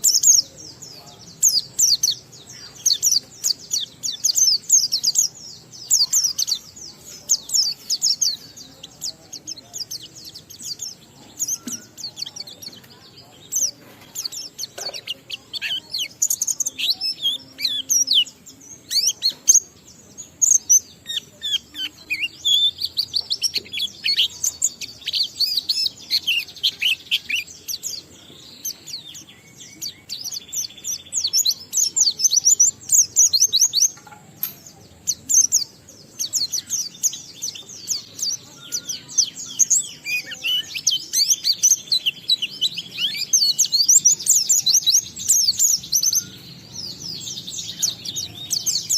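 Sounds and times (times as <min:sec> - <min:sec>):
bird singing high chirps: 0:00.0 - 0:48.9.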